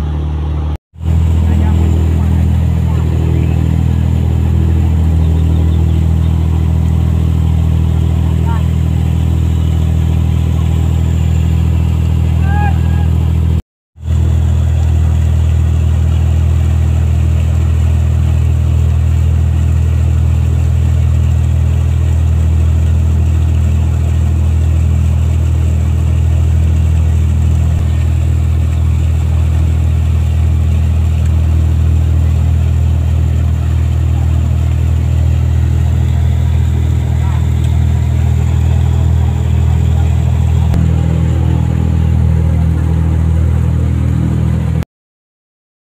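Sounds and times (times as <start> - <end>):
boat engine drone: 0.0 - 44.8
wake rushing along hull: 0.0 - 44.8.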